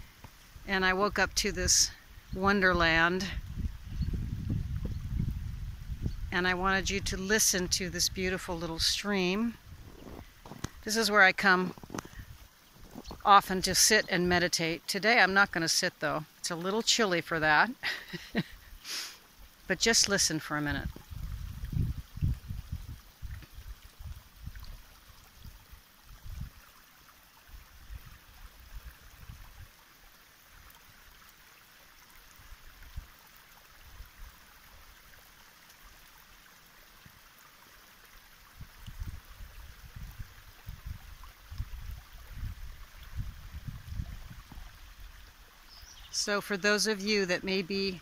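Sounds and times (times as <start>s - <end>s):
stream trickling: 0.0s - 48.0s.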